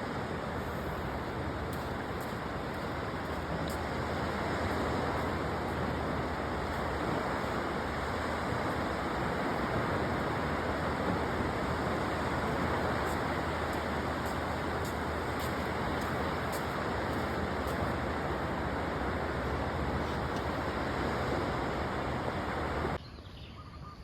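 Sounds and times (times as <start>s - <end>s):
sea waves washing onto beach: 0.0s - 23.0s
wind: 0.0s - 24.0s.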